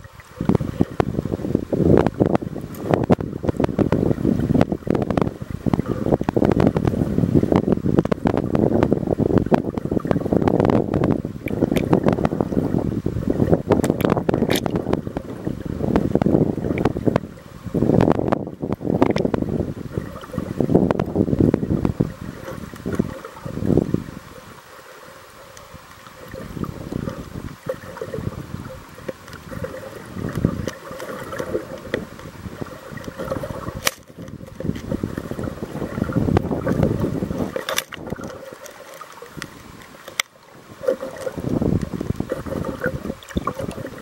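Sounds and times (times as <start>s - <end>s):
muffled underwater rushing and sloshing: 0.0s - 44.0s.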